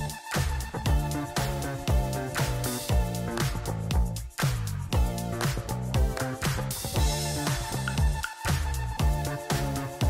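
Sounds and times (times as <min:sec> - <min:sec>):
disco-funk pop music: 0:00.0 - 0:10.0
steady kick-drum beat: 0:00.0 - 0:10.0.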